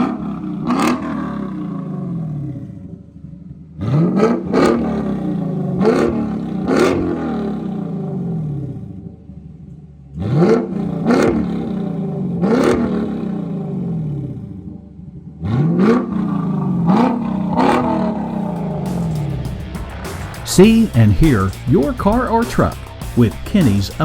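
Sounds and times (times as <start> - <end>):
car engine revving in blips: 0.0 - 24.0.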